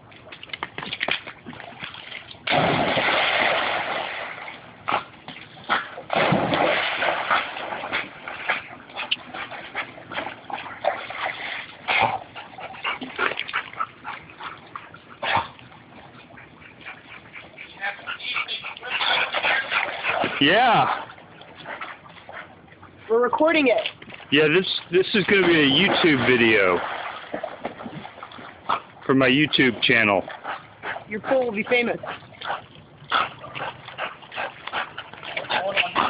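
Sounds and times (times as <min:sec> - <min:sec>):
big water splashes: 0:00.0 - 0:17.2, 0:18.8 - 0:36.0
short water slaps: 0:00.2 - 0:16.2, 0:18.9 - 0:22.5, 0:23.7 - 0:36.0.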